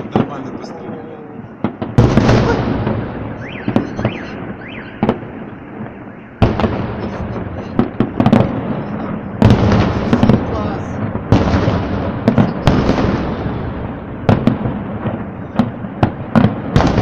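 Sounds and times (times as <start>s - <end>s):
fireworks bangs with rumble: 0.0s - 17.0s.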